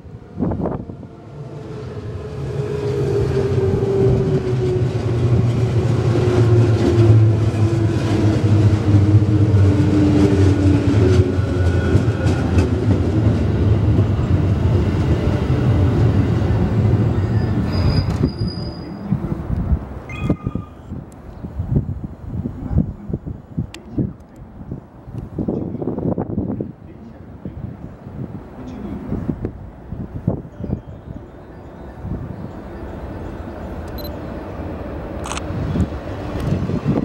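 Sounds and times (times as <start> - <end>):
train whine: 0.0 - 25.0, 27.6 - 37.0
electric train rumbling: 0.0 - 37.0.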